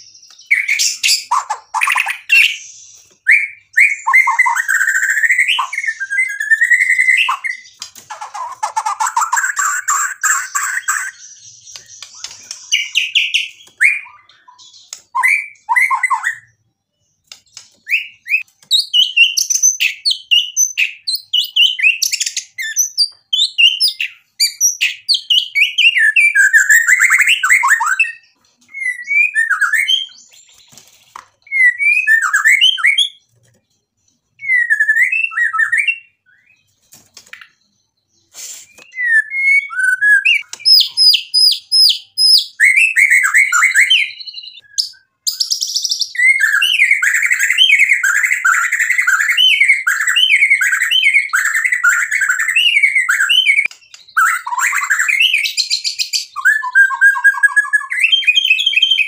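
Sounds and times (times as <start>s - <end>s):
songbird singing whistled phrases: 0.0s - 30.7s, 31.4s - 33.3s, 34.0s - 59.0s.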